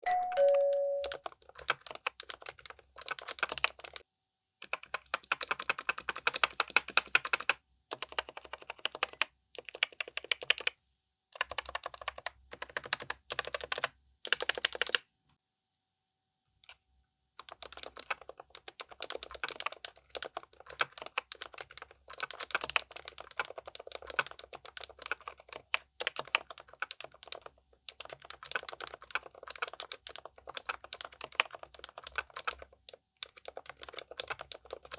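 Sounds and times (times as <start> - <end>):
typing on mechanical keyboard: 0.1 - 4.0, 4.6 - 10.8, 11.4 - 15.0, 17.4 - 34.9.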